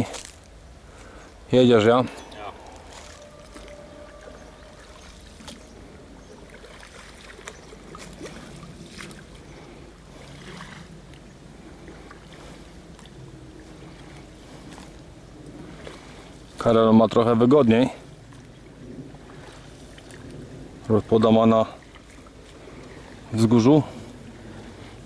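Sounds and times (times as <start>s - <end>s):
oars splashing in water: 2.0s - 16.8s, 17.4s - 25.0s.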